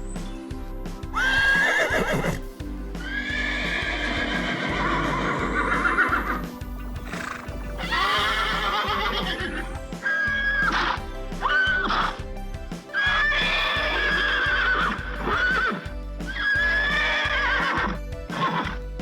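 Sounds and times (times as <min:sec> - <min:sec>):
background music: 0:00.0 - 0:19.0
horse whinnying: 0:01.2 - 0:02.4, 0:03.0 - 0:06.5, 0:07.1 - 0:12.2, 0:13.0 - 0:18.8.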